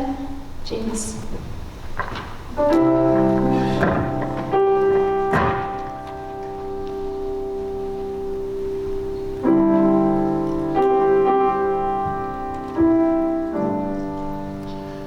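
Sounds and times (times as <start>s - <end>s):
piano playing slow chords: 2.4s - 15.0s.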